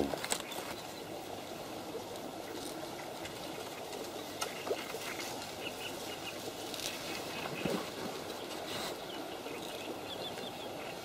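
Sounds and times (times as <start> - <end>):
reeds rustling: 0.0 - 11.0
wind: 0.0 - 11.0.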